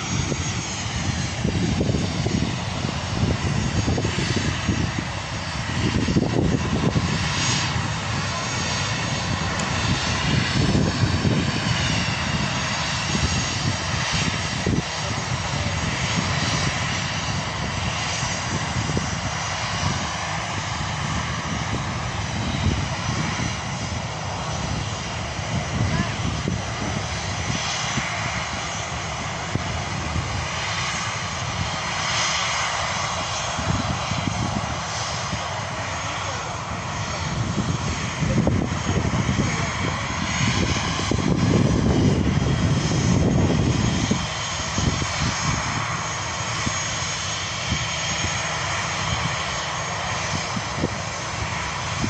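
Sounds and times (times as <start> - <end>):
jet airliner taxiing: 0.0 - 52.0.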